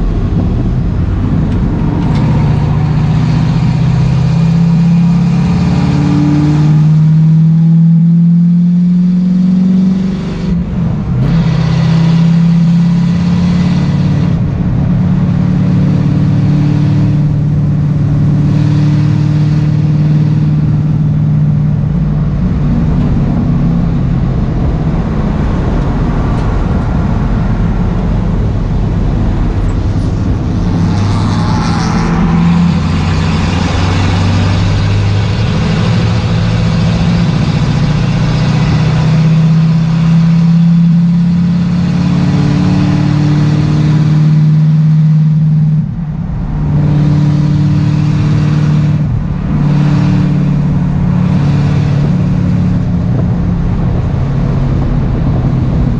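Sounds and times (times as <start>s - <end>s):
race car engine running hard: 0.0s - 55.9s
road and wind noise: 0.0s - 55.9s.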